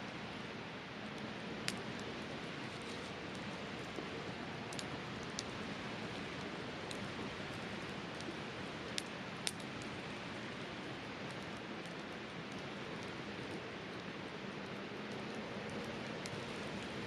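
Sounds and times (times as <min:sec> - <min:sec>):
campfire crackling and popping: 0:00.4 - 0:17.0.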